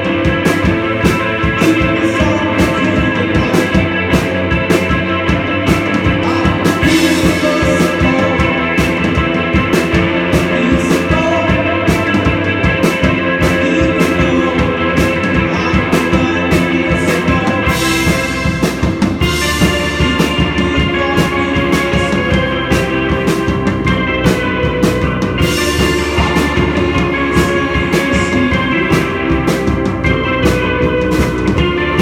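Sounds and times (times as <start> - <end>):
drum kit beating: 0.0 - 32.0
live rock band playing: 0.0 - 32.0
sustained guitar chords: 0.0 - 32.0.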